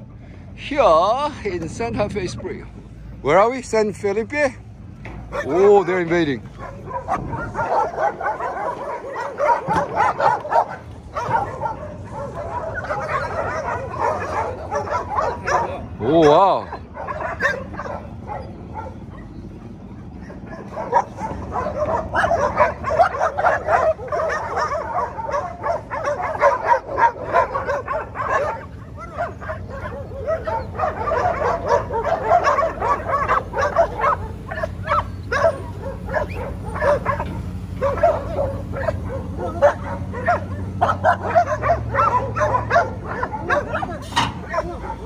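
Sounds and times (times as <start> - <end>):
dogs barking and yelping: 4.8 - 45.0.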